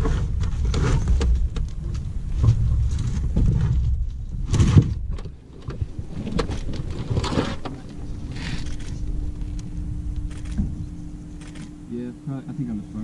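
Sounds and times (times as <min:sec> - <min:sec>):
gear knocking and rustling in boat: 0:00.0 - 0:11.7
low rumble: 0:00.0 - 0:13.0
steady hum: 0:00.0 - 0:13.0.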